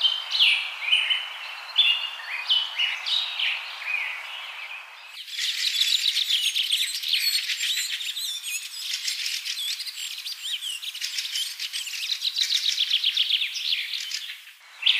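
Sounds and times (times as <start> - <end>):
small birds chirping and twittering: 0.0 - 14.9.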